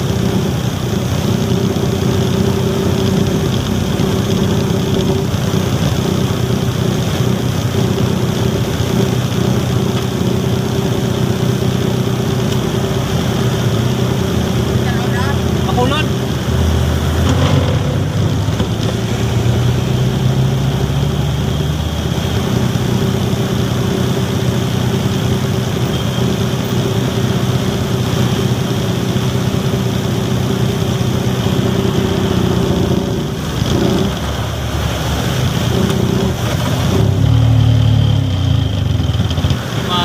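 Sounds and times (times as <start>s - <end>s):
truck diesel engine running: 0.0s - 40.0s.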